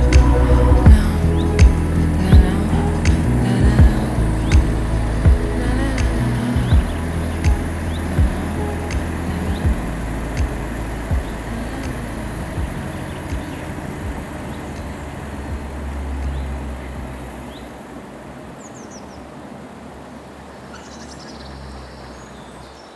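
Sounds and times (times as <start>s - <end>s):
car engines idling: 0.0s - 22.8s.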